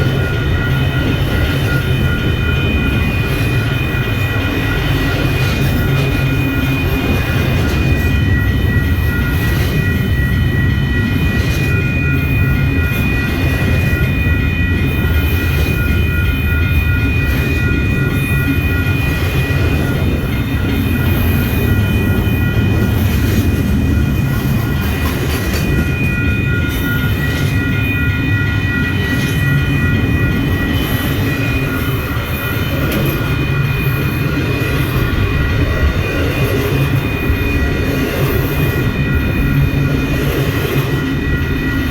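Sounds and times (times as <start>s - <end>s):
high ringing tone: 0.0s - 41.9s
train cars rumbling: 0.0s - 41.9s.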